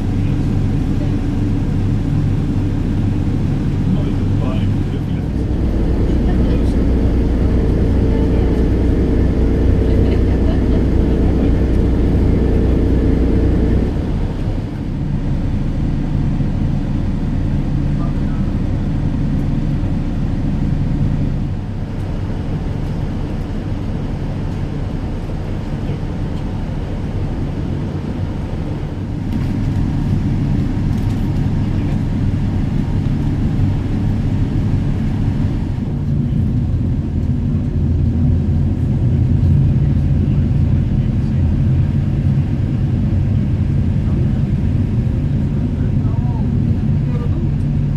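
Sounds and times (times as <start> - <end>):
ferry engines droning: 0.0 - 47.9.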